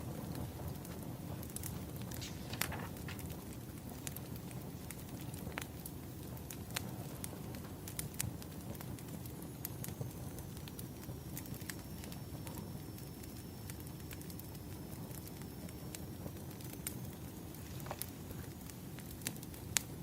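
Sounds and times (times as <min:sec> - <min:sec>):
fire rumbling: 0:00.0 - 0:20.0
firewood popping and crackling: 0:00.0 - 0:20.0.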